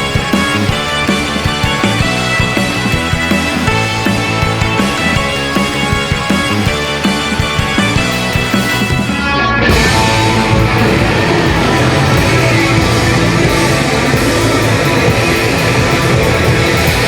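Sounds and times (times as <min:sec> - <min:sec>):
loud rock music with guitars: 0:00.0 - 0:17.0.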